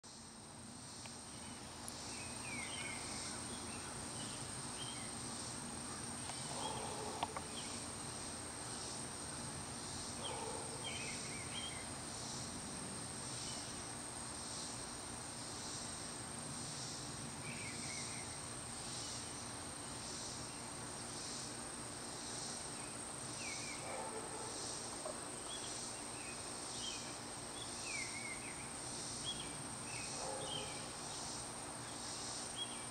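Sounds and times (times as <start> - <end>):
insects droning: 0.0 - 32.9
pulsing insect song: 0.1 - 32.9.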